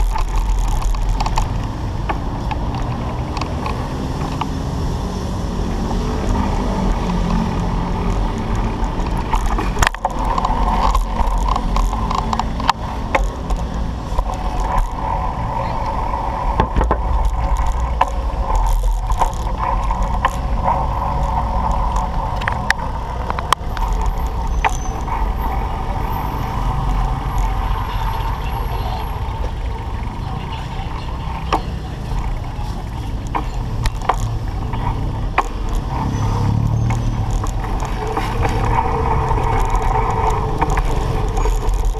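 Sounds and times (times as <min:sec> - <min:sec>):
bike rolling on pavement: 0:00.0 - 0:41.9
clicks and knocks over bumps: 0:00.0 - 0:41.9.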